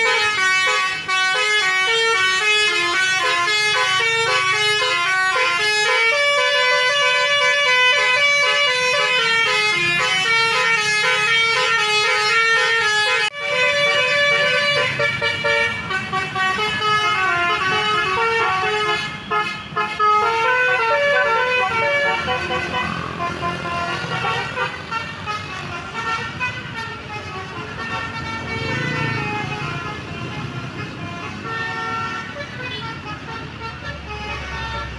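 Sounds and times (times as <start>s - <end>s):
bus horn playing a melody: 0.0s - 34.9s.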